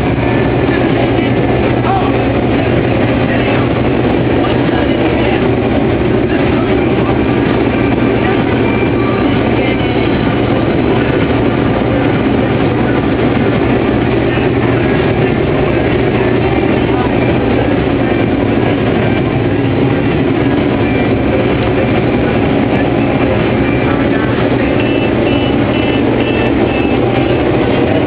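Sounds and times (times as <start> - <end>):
harvest machinery rumbling: 0.0 - 28.0.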